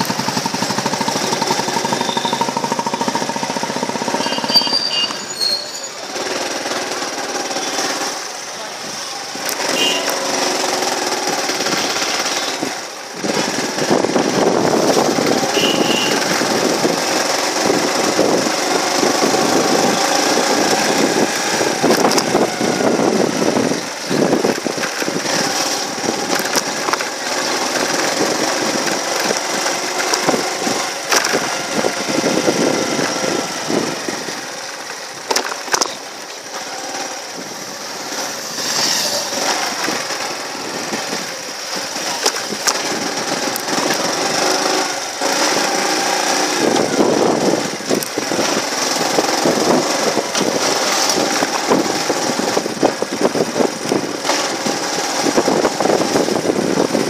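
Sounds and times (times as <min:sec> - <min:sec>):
road and wind noise: 0:00.0 - 0:57.0
small vehicle engine rattling drone: 0:00.0 - 0:57.0.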